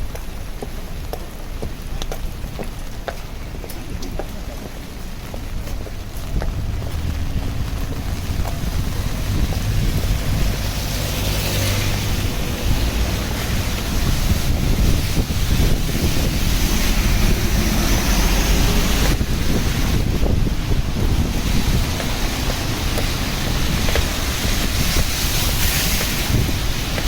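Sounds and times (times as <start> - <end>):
rain on wet street: 0.0 - 27.0
wind buffeting microphone: 0.0 - 27.0.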